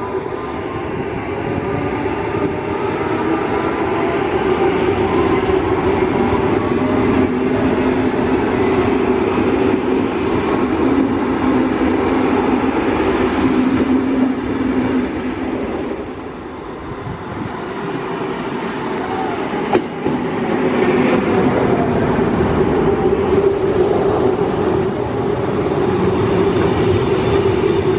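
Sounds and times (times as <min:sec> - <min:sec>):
train running past: 0:00.0 - 0:27.9.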